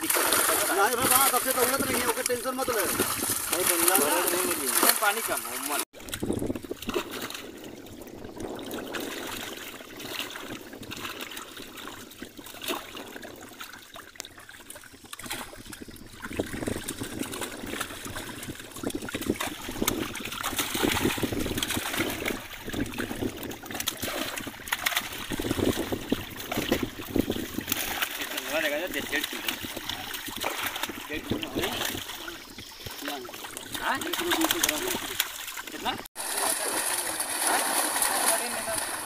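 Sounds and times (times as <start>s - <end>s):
fish splashing in water: 0.0s - 39.0s.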